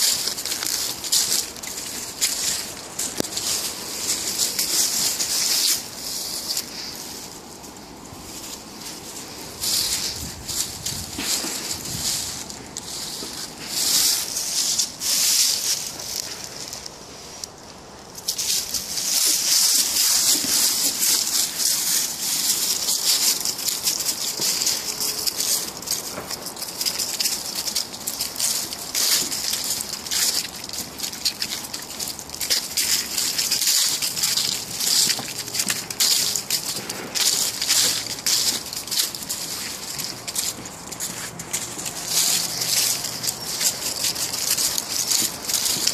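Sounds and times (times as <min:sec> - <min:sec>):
dry leaves crackling and rustling: 0:00.0 - 0:45.9.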